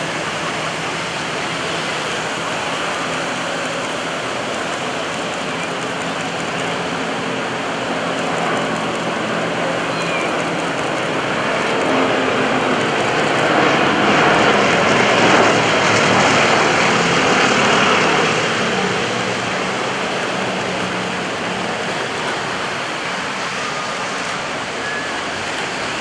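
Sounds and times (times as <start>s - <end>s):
propeller planes droning overhead: 0.0s - 26.0s.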